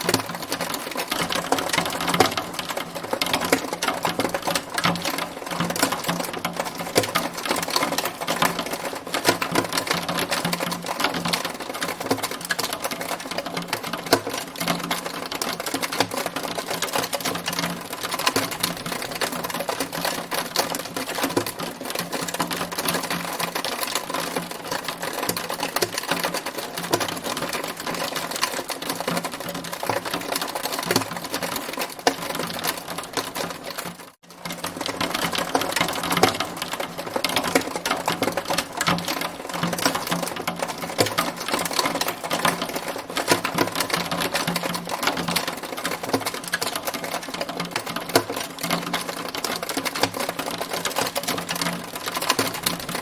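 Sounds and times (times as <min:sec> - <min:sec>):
hailstones clattering on hard surface: 0:00.0 - 0:53.0.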